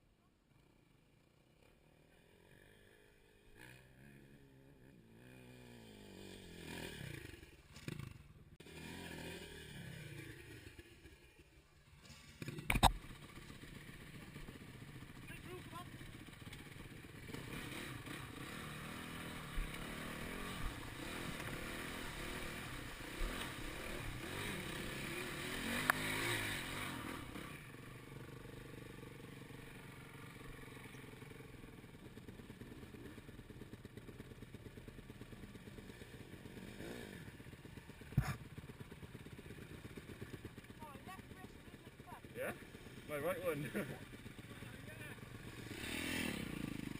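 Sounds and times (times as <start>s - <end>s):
dirt bike engine revving: 1.6s - 11.2s, 12.1s - 31.6s, 34.9s - 46.9s.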